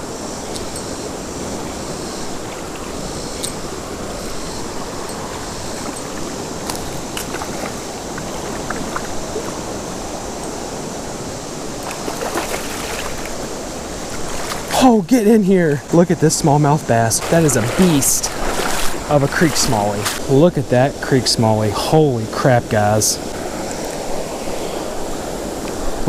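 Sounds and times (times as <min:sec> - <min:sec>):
creek current rushing: 0:00.0 - 0:26.0.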